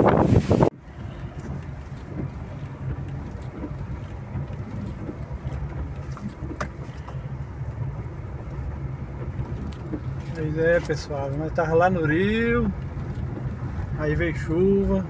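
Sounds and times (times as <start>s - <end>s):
vehicle interior rumble: 0.0s - 15.0s.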